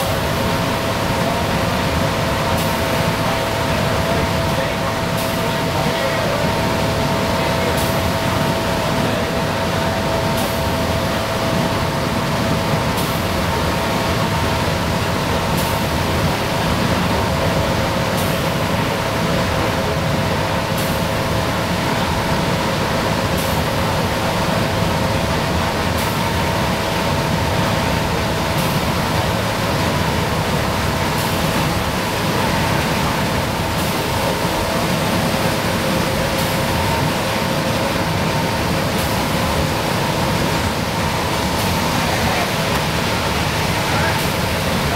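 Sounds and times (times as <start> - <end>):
tyres hissing on wet road: 0.0 - 44.9.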